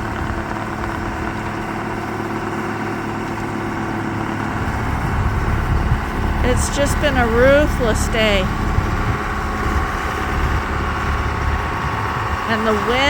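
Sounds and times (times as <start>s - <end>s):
snowblower engine running: 0.0s - 13.0s.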